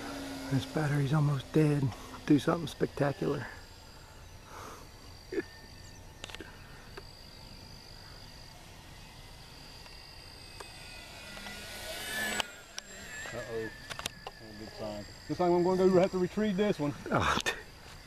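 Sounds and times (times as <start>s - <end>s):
high insect trill: 0.0s - 18.0s
model plane electric motor whine: 0.0s - 18.0s.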